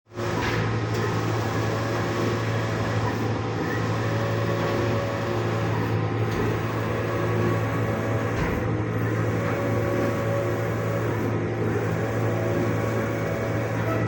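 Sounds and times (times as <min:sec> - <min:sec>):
printing machine whirring: 0:00.1 - 0:14.0.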